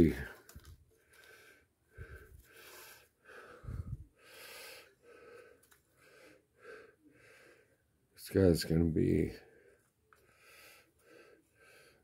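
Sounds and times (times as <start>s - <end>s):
soft breathing: 0.1s - 7.9s, 9.4s - 12.0s.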